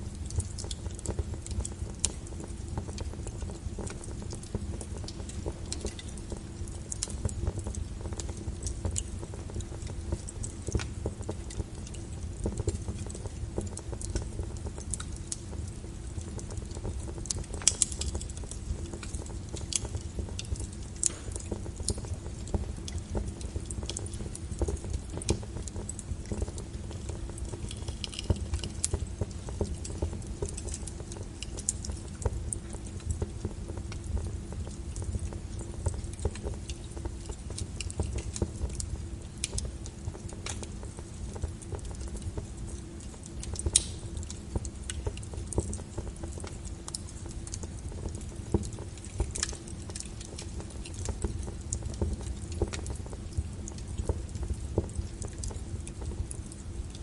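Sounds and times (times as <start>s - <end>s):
fire low rumble: 0.0s - 57.0s
wood crackling and popping: 0.0s - 57.0s.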